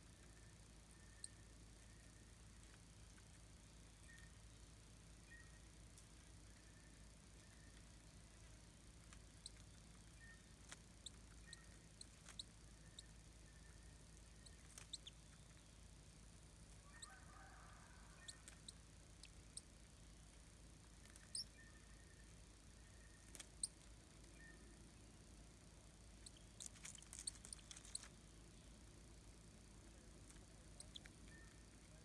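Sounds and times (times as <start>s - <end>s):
faint high-pitched chirps and ticks: 0.0s - 32.0s.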